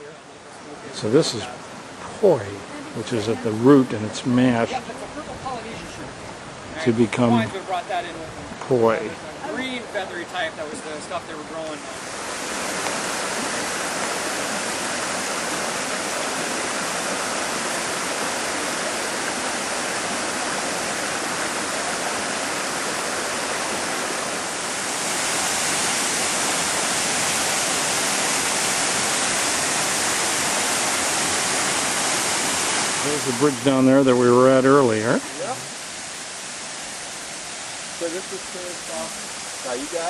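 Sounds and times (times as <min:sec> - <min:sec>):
running water rushing: 0:00.0 - 0:40.0.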